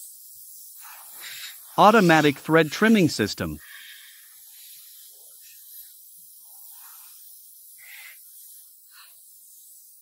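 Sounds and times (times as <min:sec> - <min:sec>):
compressed air blow gun hissing: 0:00.1 - 0:02.9, 0:03.6 - 0:10.0.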